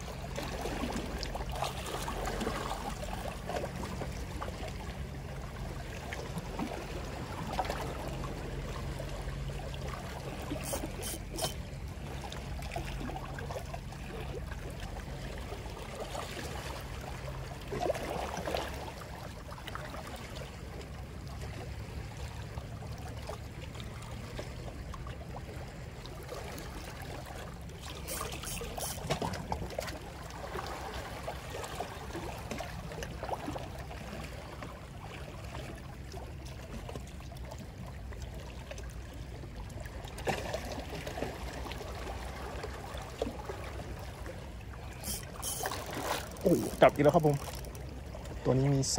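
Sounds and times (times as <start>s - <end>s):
seawater lapping at shoreline: 0.0s - 48.9s.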